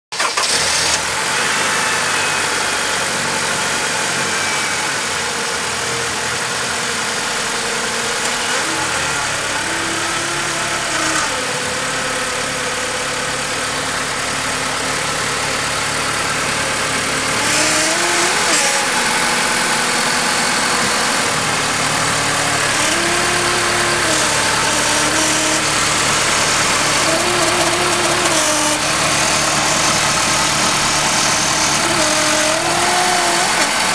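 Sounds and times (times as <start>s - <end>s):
car engine idling: 0.1s - 33.9s
transmission whine: 0.2s - 33.9s.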